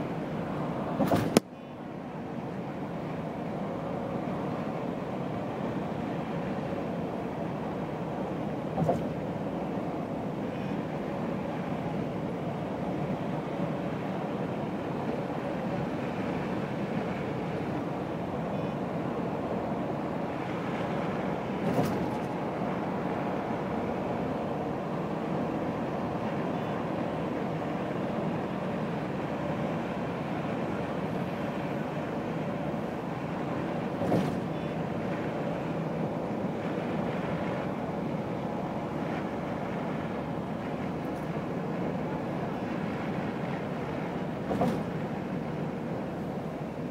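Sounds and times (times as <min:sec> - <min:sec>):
road and engine noise inside vehicle: 0:00.0 - 0:46.9.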